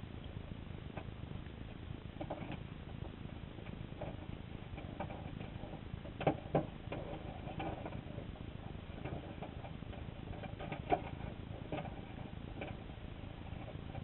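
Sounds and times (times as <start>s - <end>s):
faint clicks and ticks: 0.0s - 14.0s.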